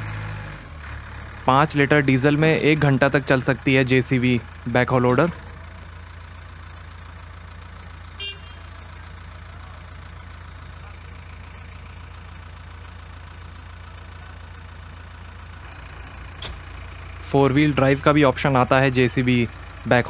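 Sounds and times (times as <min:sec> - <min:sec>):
diesel engine running at low revs: 0:00.0 - 0:20.0.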